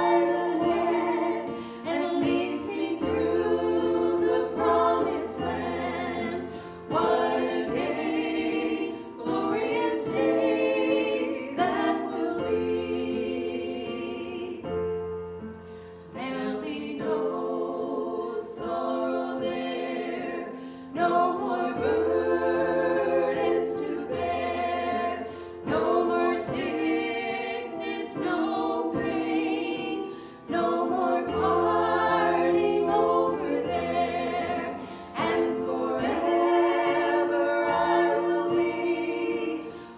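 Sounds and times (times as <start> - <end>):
group singing worship song: 0.0 - 14.9, 16.1 - 39.9.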